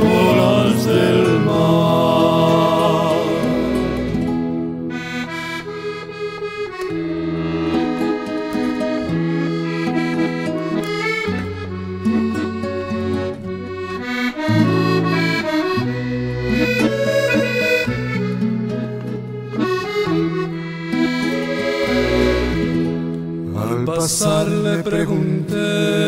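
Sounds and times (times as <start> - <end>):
accordion playing habanera: 0.0 - 26.0.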